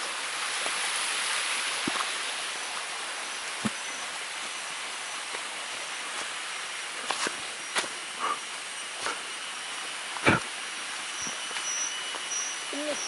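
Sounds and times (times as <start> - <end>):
jungle background hiss: 0.0 - 13.0
footsteps on leafy trail: 0.4 - 13.0.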